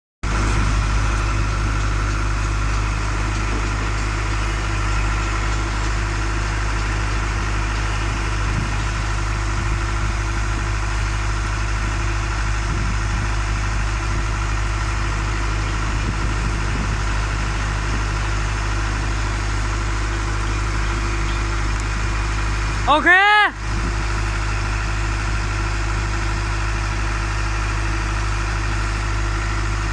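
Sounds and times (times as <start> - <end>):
concrete mixer running: 0.2 - 29.9.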